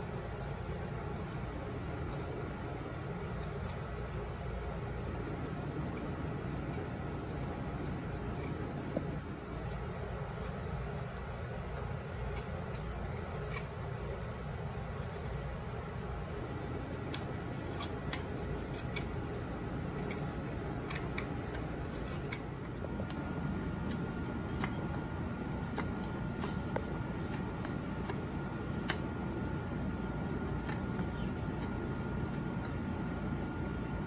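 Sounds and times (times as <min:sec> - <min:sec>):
knife carving wood: 0:00.0 - 0:29.2, 0:30.4 - 0:33.6
steady background hum: 0:00.0 - 0:34.0.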